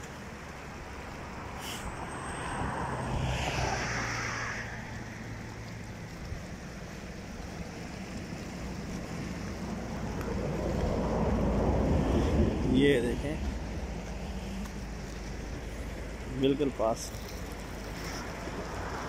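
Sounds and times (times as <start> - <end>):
rushing floodwater: 0.0 - 19.0
vehicle engine humming: 0.0 - 19.0.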